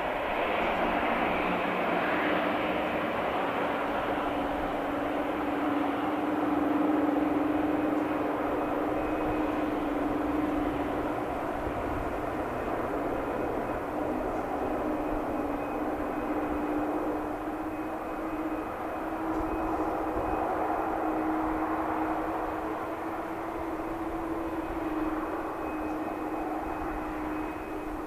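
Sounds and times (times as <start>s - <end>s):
airliner engines humming: 0.0s - 28.0s.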